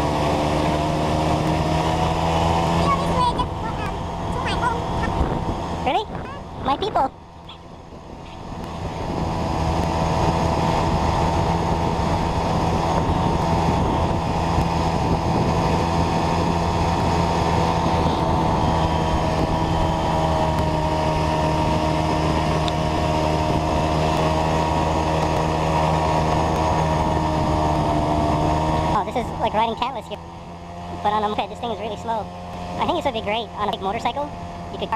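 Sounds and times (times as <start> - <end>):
moped engine running: 0.0 - 34.9
wind and road noise: 0.0 - 34.9.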